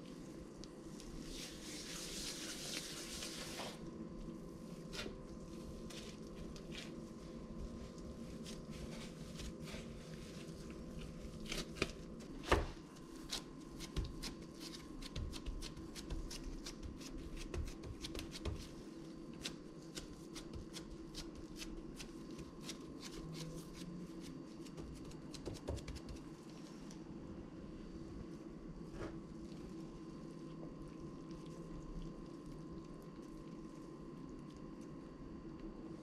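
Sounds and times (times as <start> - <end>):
crackling clicks of gloves and dough: 0.0 - 1.6, 3.8 - 27.2, 28.3 - 36.0.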